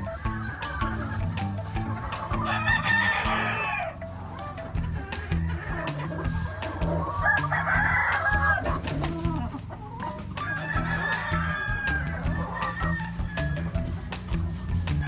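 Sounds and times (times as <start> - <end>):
chickens clucking: 0.0 - 15.0
roosters crowing: 0.0 - 15.0.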